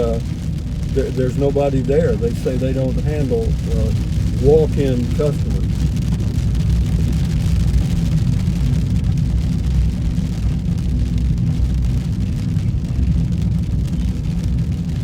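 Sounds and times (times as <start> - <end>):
vehicle road noise and engine drone: 0.0 - 15.0.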